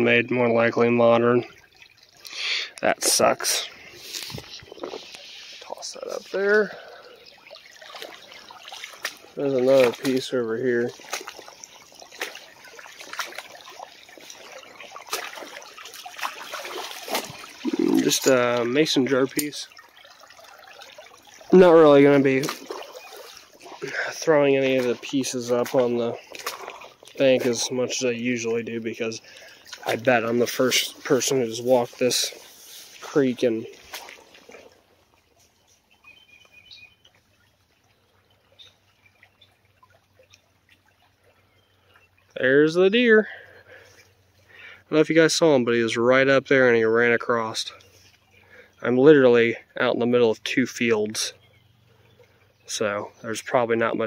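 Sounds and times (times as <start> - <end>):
creek water trickling over gravel: 0.0 - 54.0
short water splashes: 0.0 - 54.0.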